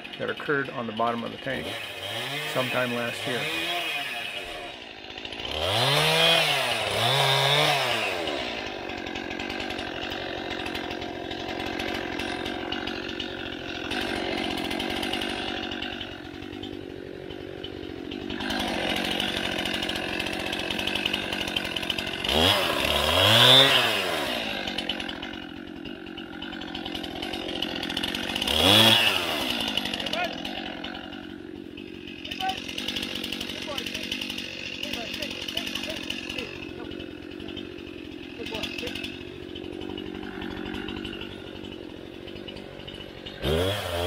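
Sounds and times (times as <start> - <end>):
chainsaw revving and running: 0.0 - 44.0.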